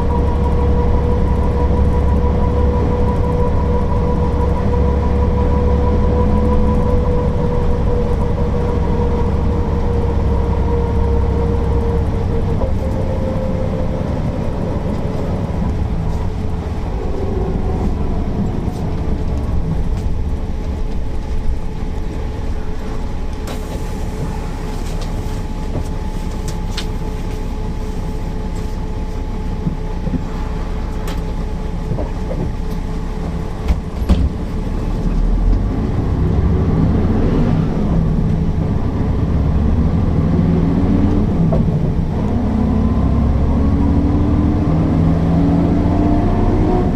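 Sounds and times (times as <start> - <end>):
bus diesel engine droning: 0.0 - 46.9
engine whine: 0.0 - 46.9.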